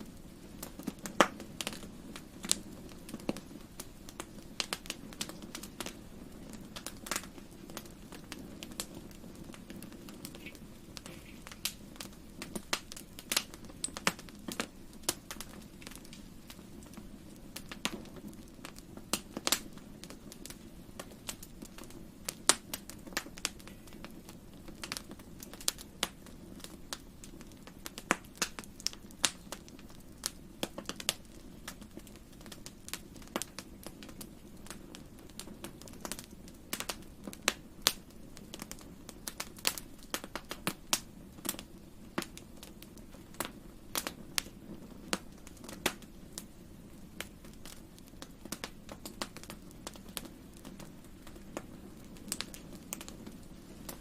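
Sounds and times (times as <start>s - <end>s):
low background noise: 0.0s - 54.0s
wood fire crackling: 0.0s - 54.0s.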